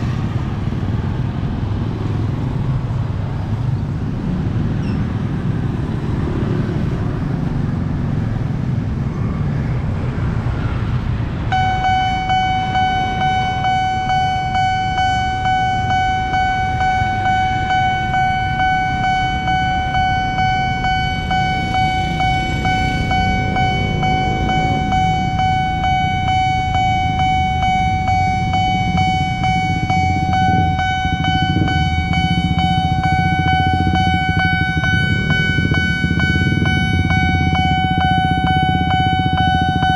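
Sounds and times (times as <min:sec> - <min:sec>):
motorcycle traffic: 0:00.0 - 0:39.9
electronic warning siren: 0:03.6 - 0:39.9.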